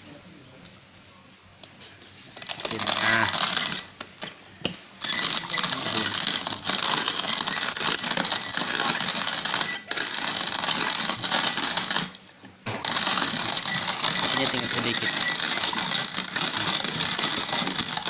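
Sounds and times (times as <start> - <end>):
coffee grinder crunching beans: 2.4 - 4.4, 5.0 - 18.0.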